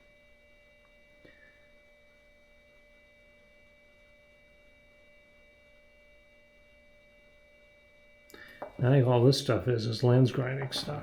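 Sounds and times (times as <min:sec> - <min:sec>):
faint electronic whine: 0:00.0 - 0:11.0.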